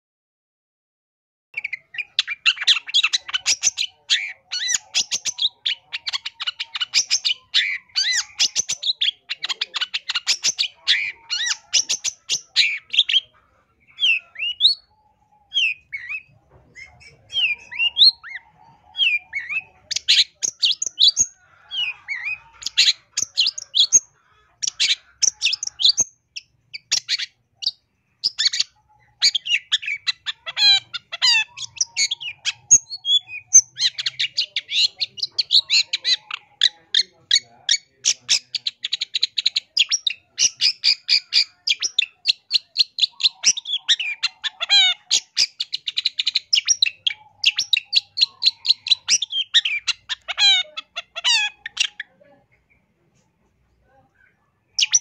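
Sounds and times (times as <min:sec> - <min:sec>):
bird singing chirps and trills: 0:01.6 - 0:52.8, 0:54.2 - 0:55.0.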